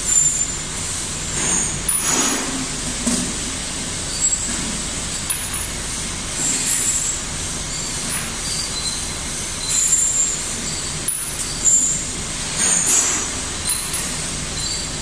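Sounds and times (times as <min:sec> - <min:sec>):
mechanical background noise: 0:00.0 - 0:15.0.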